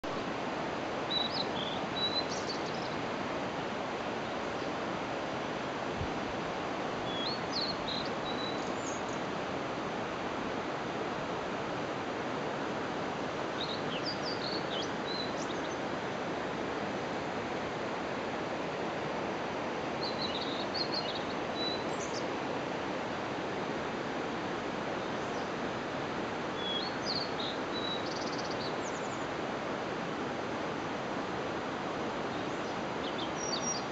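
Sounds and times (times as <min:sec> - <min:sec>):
steady rushing outdoor noise: 0:00.1 - 0:33.9.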